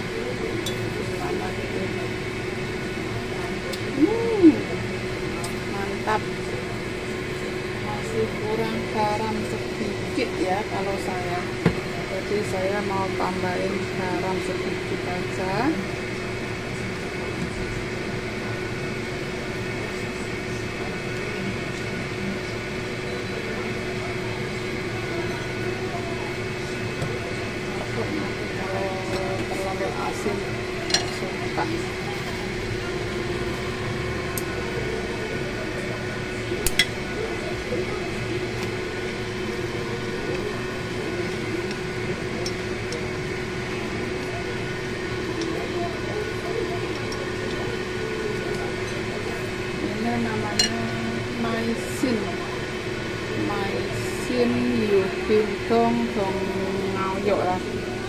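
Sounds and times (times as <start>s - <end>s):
appliance mechanical hum: 0.0s - 58.0s.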